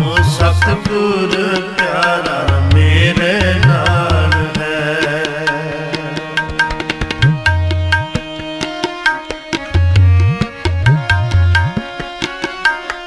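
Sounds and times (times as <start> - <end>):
harmonium held notes: 0.0 - 13.0
tabla playing: 0.0 - 13.0.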